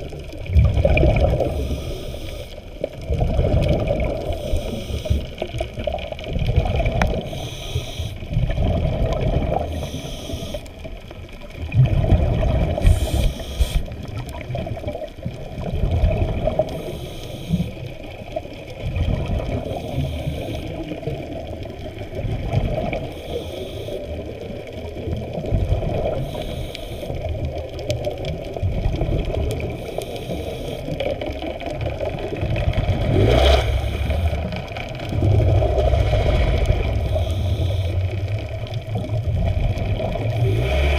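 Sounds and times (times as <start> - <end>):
hissing water swell: 0.0 - 40.9
underwater water churning: 0.0 - 40.9.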